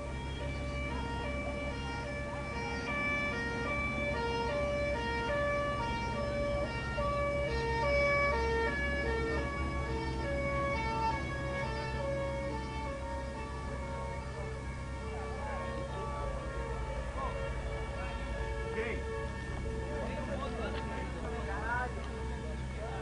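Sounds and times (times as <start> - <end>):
low engine rumble: 0.0 - 23.0
two-tone siren: 0.0 - 23.0.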